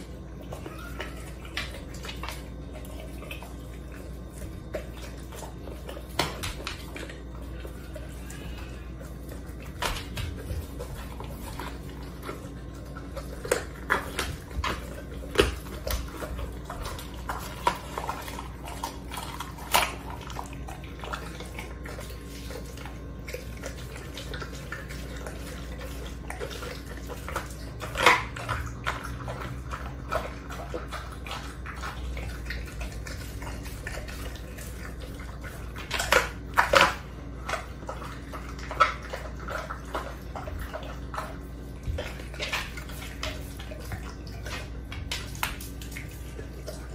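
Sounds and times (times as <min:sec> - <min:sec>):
dog chewing and tearing meat: 0:00.0 - 0:46.9.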